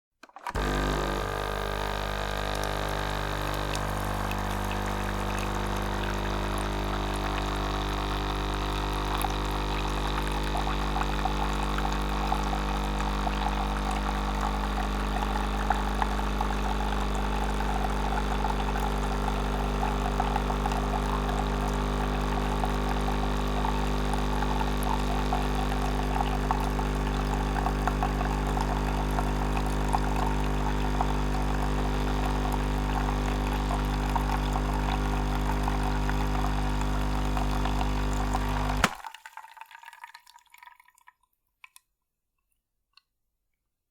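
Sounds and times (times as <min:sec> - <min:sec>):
coffee machine hum: 0:00.3 - 0:39.0
liquid crackling: 0:00.4 - 0:41.9.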